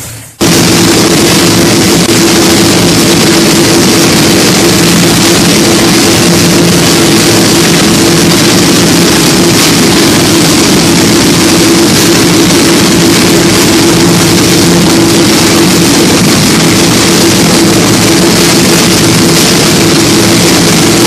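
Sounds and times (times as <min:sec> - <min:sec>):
loud race engine running: 0:00.0 - 0:21.0.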